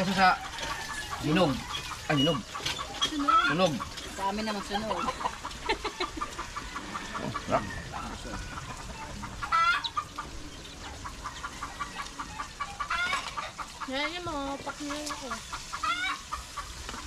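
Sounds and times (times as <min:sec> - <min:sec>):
chickens clucking: 0:00.0 - 0:17.0
chicken squawks: 0:00.1 - 0:14.1, 0:14.7 - 0:17.0.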